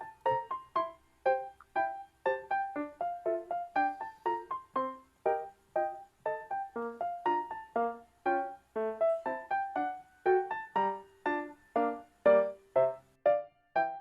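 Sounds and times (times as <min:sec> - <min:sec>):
keyboard melody: 0:00.0 - 0:14.0.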